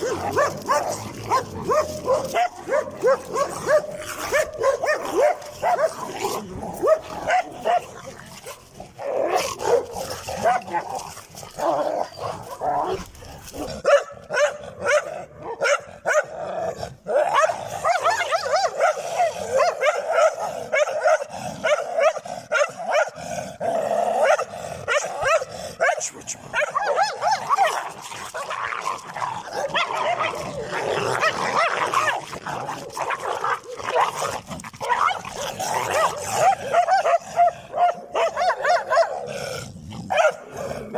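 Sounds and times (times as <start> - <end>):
dogs barking and growling: 0.0 - 40.9.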